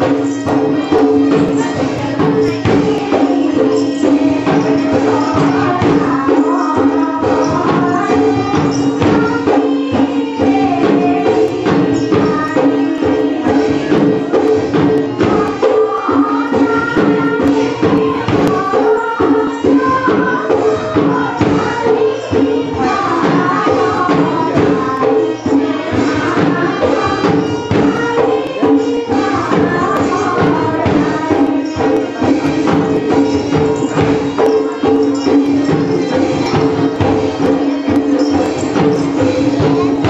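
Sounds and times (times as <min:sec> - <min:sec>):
rapid percussion strikes: 0:00.0 - 0:40.0.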